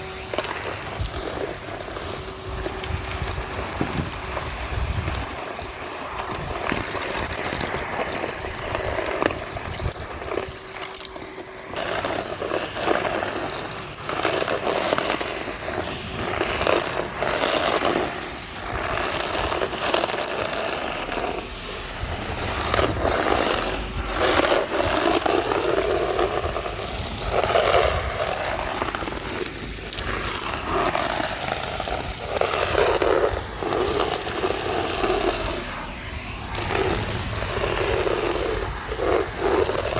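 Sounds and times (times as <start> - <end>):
vacuum cleaner sucking up grit: 0.0 - 39.9.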